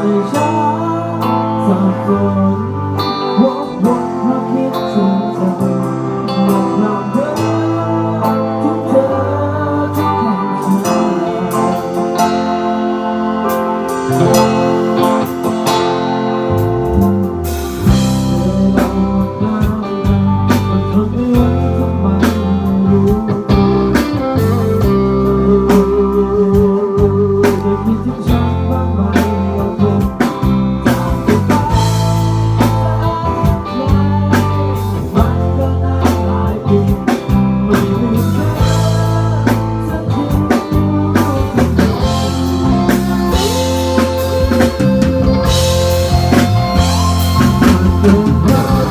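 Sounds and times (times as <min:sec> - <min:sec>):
lead melody with vibrato: 0:00.0 - 0:36.6, 0:38.0 - 0:48.9
band playing instrumental: 0:00.0 - 0:48.9.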